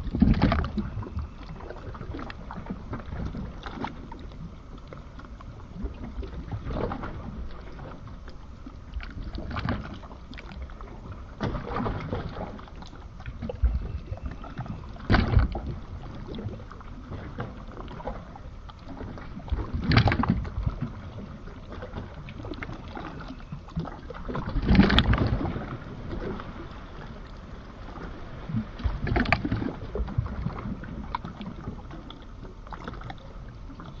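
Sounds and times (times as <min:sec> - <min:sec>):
steady water rush: 0:00.0 - 0:34.0
waves washing and surging: 0:00.0 - 0:34.0.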